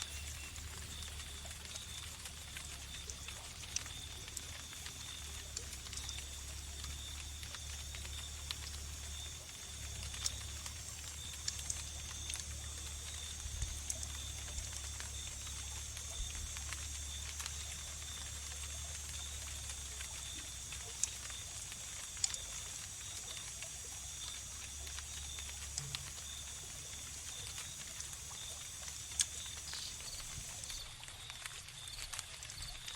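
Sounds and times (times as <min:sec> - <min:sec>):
low steady hum: 0:00.0 - 0:31.1
crickets trilling: 0:00.0 - 0:32.9
wood fire crackling and popping: 0:00.0 - 0:32.9.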